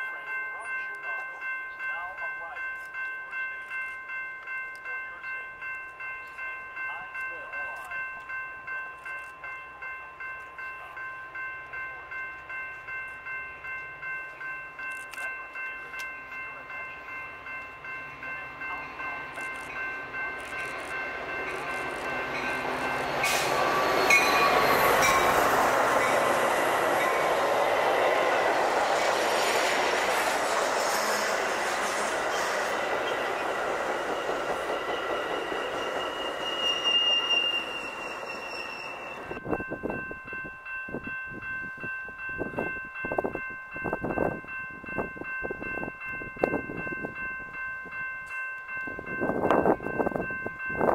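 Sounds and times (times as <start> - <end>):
commuter train passing: 0.0 - 50.9
railroad crossing bells ringing: 0.0 - 50.9.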